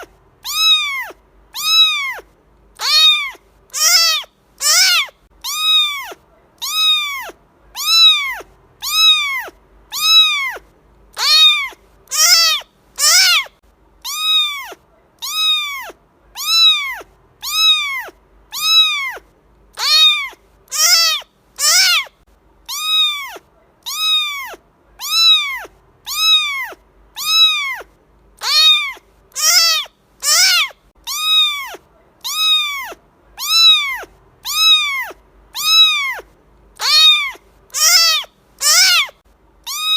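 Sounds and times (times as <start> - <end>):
cat meowing: 0.0 - 22.1, 22.7 - 39.9.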